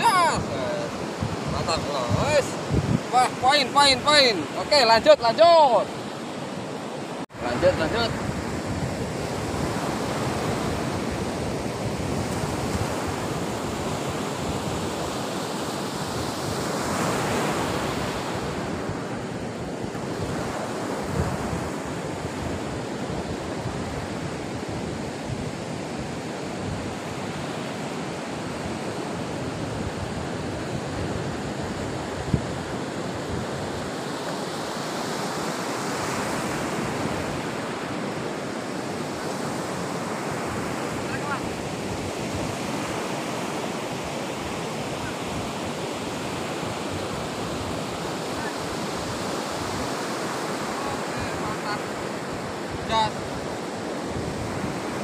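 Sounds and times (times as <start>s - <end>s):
surf breaking on beach: 0.0s - 24.5s, 27.2s - 55.0s.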